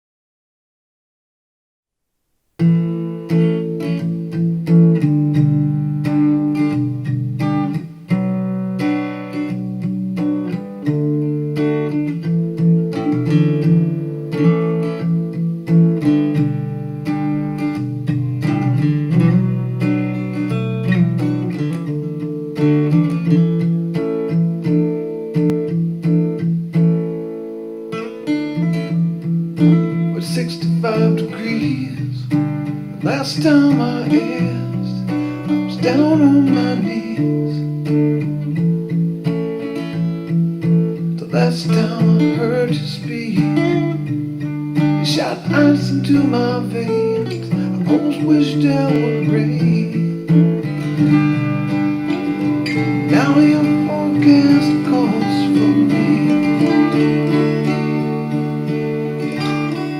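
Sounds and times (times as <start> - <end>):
acoustic guitar strumming chords: 2.6 - 59.9.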